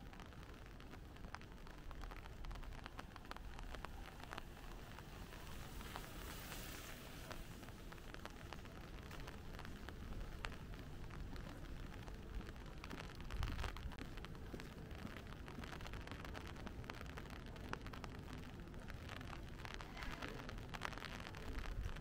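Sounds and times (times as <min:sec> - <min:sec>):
rain on a street: 0:00.0 - 0:22.0
raindrops ticking: 0:00.0 - 0:22.0.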